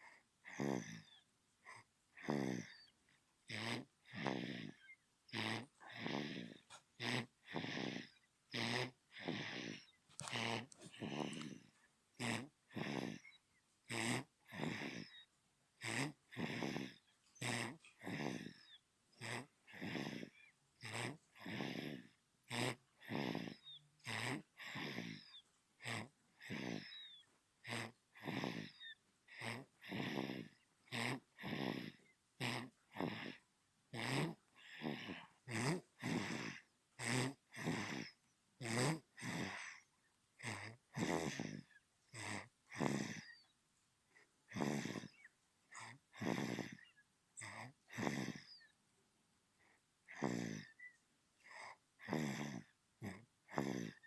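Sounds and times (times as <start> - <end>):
baby snoring: 0.0 - 43.5, 44.4 - 48.8, 50.0 - 54.0.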